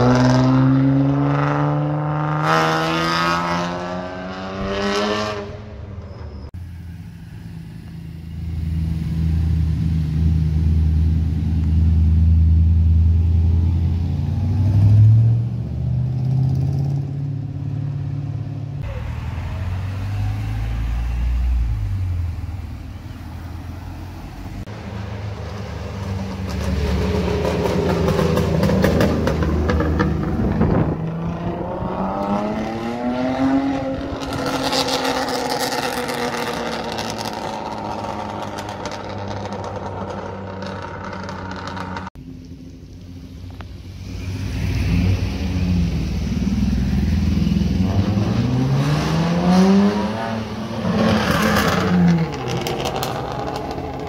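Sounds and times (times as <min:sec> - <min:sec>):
car engine revving: 0:00.0 - 0:05.9, 0:06.8 - 0:42.2, 0:43.5 - 0:54.0
cars driving past: 0:00.0 - 0:54.0.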